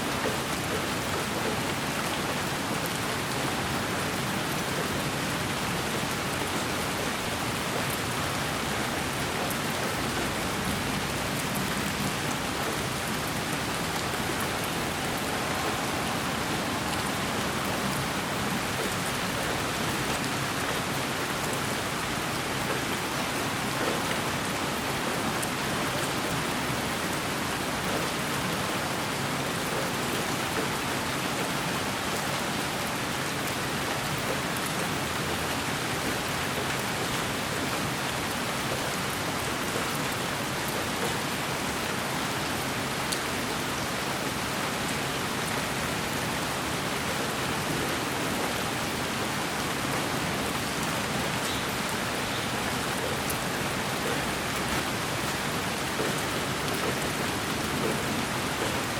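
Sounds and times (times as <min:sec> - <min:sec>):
rain: 0:00.0 - 0:58.9.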